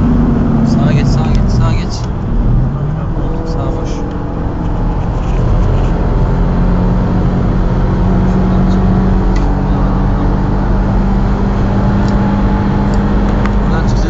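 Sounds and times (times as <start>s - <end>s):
car engine droning: 0.0s - 14.0s
road noise: 0.0s - 14.0s.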